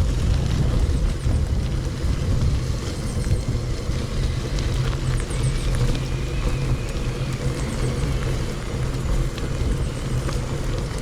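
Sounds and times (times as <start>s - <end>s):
bike tyre noise on dirt: 0.0s - 11.0s
wind rumble on microphone: 0.0s - 11.0s.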